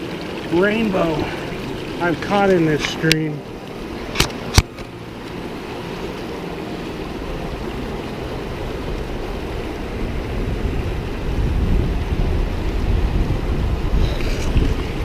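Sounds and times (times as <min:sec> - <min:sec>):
mountain creek rushing: 0:00.0 - 0:15.0
wind buffeting microphone: 0:00.0 - 0:15.0.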